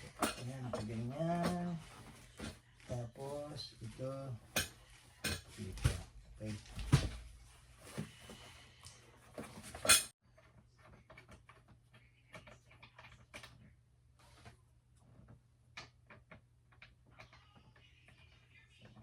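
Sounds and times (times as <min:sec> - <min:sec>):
chair parts clicking and knocking: 0:00.0 - 0:02.6, 0:03.3 - 0:08.1, 0:09.3 - 0:13.8, 0:15.0 - 0:19.0.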